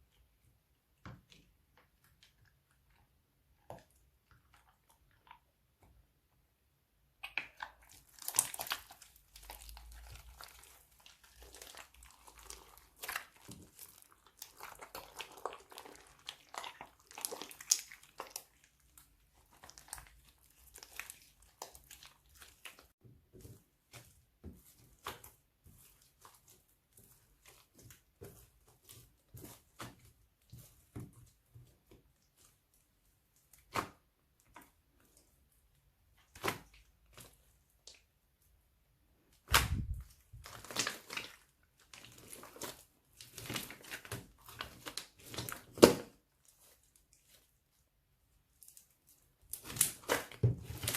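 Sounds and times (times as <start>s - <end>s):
slime squishing and crackling: 7.2s - 38.2s, 39.4s - 50.9s.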